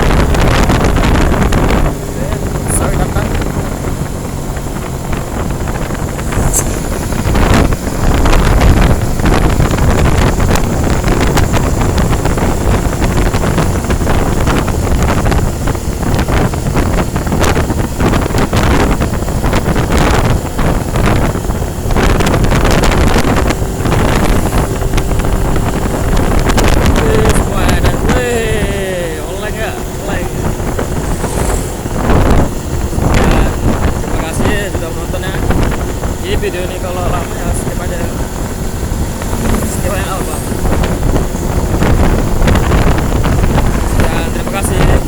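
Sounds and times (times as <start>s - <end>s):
truck traffic rumble: 0.0s - 45.0s
wind buffeting microphone: 0.0s - 45.0s.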